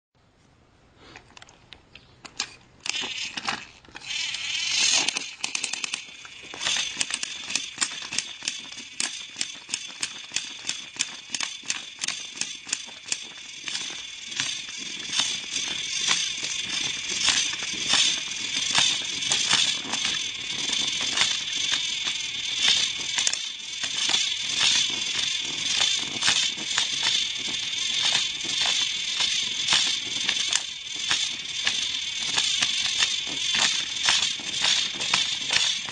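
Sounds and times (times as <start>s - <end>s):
rattle of regular clicks: 2.2s - 35.9s
toy train motors whirring: 2.2s - 35.9s.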